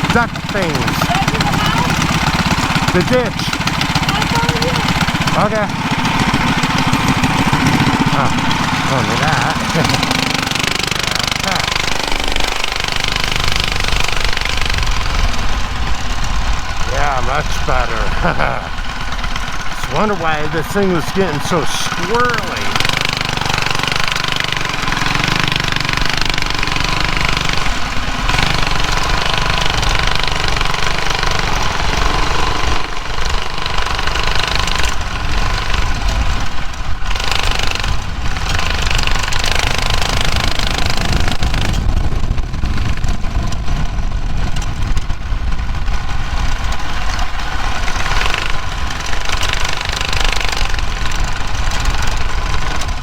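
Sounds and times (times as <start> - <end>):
mini bike engine rattling: 0.0 - 53.0.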